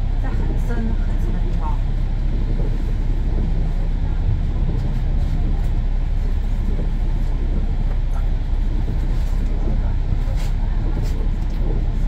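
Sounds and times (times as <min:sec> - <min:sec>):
bus engine drone: 0:00.0 - 0:12.0
road and tyre noise: 0:00.0 - 0:12.0.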